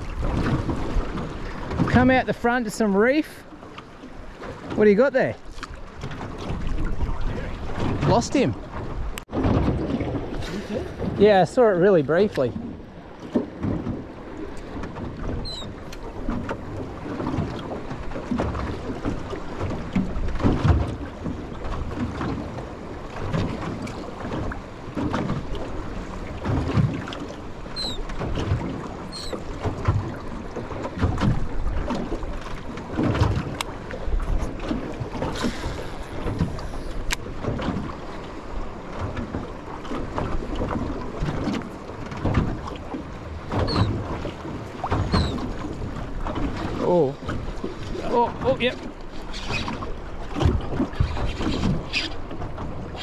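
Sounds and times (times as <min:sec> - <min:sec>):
water slapping against hull: 0:00.0 - 0:53.0.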